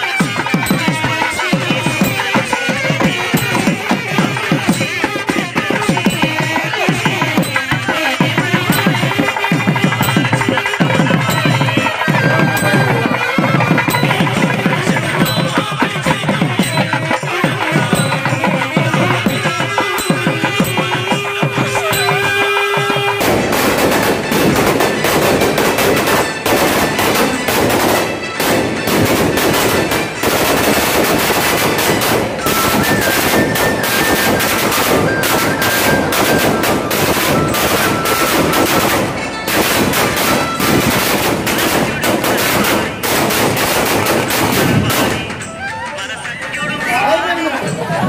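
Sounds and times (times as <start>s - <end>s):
firecrackers going off: 0.0s - 45.8s
procession drum music: 0.0s - 48.0s.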